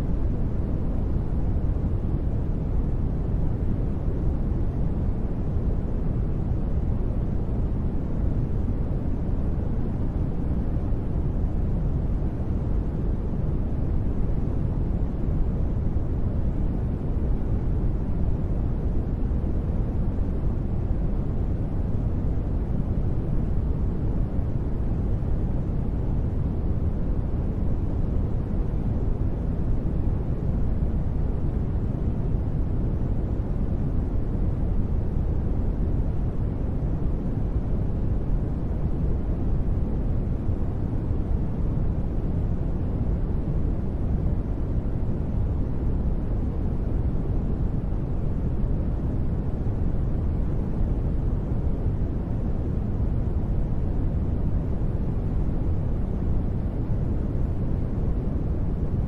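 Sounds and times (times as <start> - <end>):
deep white noise hiss: 0.0 - 59.0.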